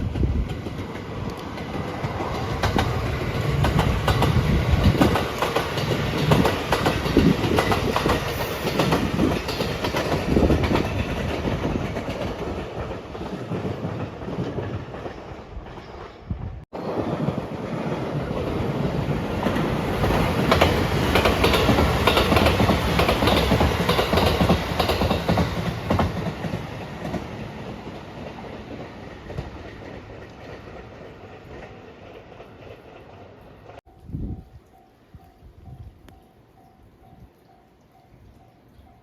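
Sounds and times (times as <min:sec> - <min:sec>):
wheels clacking over rail joints: 0:00.0 - 0:33.9
passenger train passing: 0:00.0 - 0:39.0.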